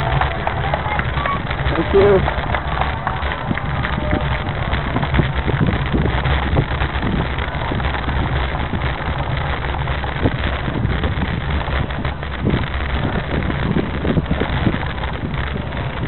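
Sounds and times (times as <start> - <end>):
bicycle rattling over cobblestones: 0.0 - 16.0
wind on microphone: 0.0 - 16.0.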